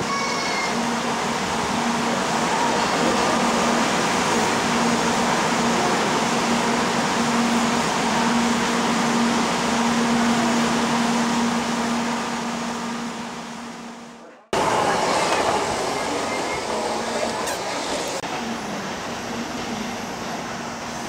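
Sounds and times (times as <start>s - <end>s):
train running noise in cab: 0.0s - 21.0s.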